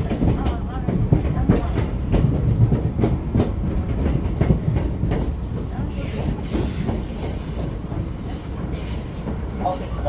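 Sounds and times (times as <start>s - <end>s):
low train rumble: 0.0s - 10.0s
train wheels clacking: 0.0s - 10.0s.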